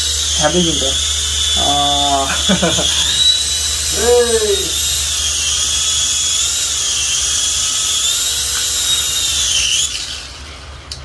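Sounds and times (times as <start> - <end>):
toy drone motors whining: 0.0 - 11.0.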